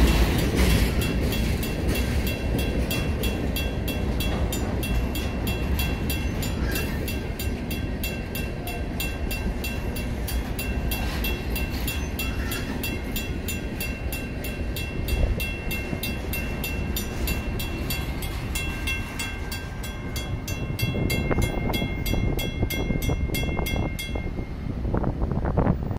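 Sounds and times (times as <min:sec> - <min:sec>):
crossing bell ringing rapidly: 0:00.0 - 0:24.9
train wheels rumbling on rails: 0:00.0 - 0:25.9.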